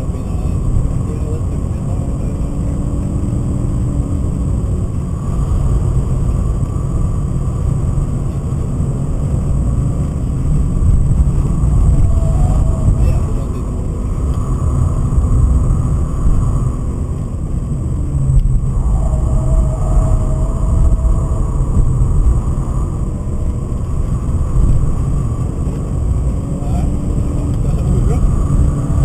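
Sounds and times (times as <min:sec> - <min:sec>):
car engine running hard: 0:00.0 - 0:29.0
wind noise: 0:00.0 - 0:29.0.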